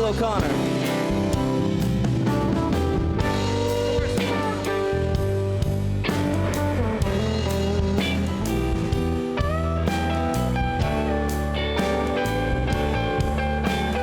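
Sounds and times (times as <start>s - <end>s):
bass guitar: 0.0s - 14.0s
drum kit: 0.0s - 14.0s
electric guitar solo: 0.7s - 14.0s.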